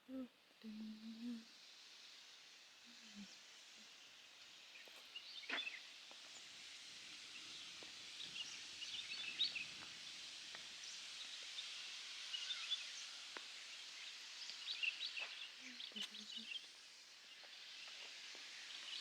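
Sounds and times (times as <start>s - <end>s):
high outdoor hiss: 0.0s - 19.0s
small birds chirping: 0.1s - 19.0s.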